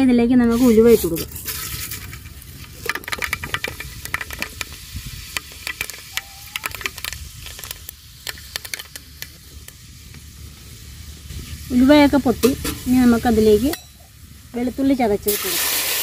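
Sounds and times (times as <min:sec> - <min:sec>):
seeds sizzling in hot oil: 0:00.5 - 0:16.0
sharp pops and crackles: 0:00.6 - 0:14.0.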